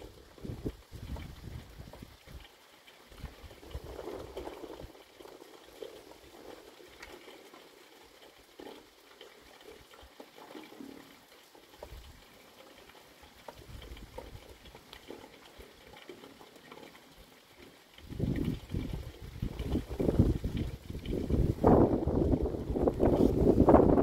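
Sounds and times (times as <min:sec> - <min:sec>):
light rain pattering and dripping: 0:00.0 - 0:24.0.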